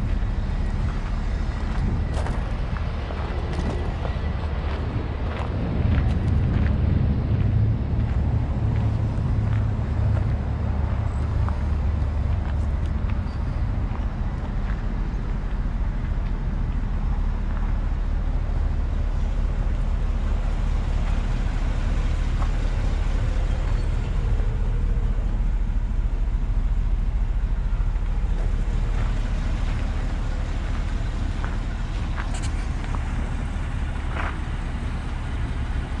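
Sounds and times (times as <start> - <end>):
truck engine idling: 0.0 - 36.0.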